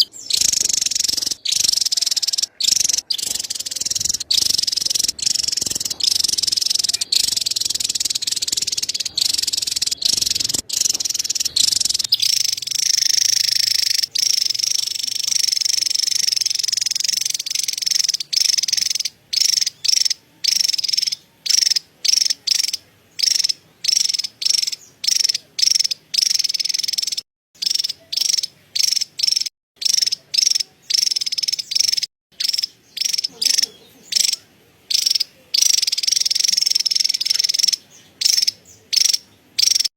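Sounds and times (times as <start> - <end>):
bird buzzy chattering trill: 0.0 - 39.9.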